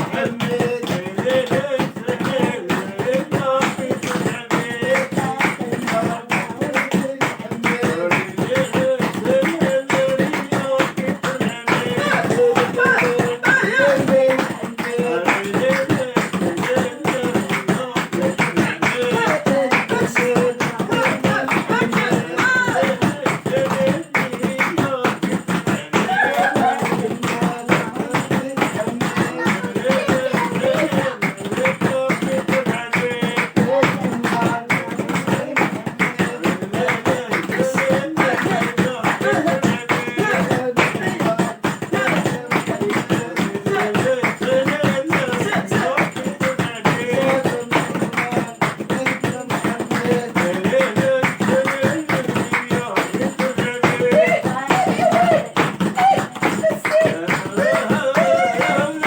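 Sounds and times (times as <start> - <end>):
hand claps: 0.0 - 59.0
percussion: 0.0 - 59.0
voices singing a folk chant: 0.0 - 59.0.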